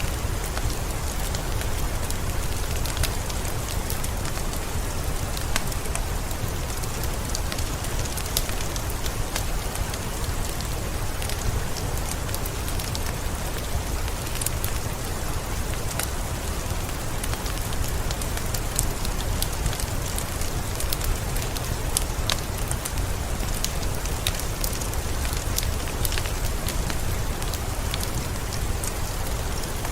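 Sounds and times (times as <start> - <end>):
fireplace crackling: 0.0 - 29.9
steady rain: 0.0 - 29.9.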